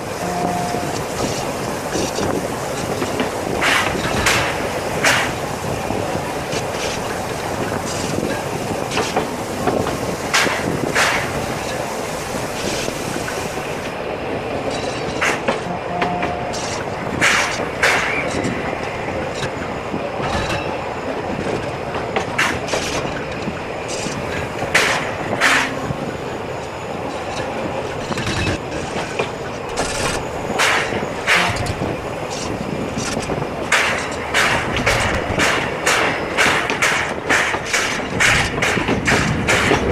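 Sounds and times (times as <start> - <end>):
train carriage rumbling: 0.0 - 39.9
wheels clacking over rail joints: 0.0 - 39.9.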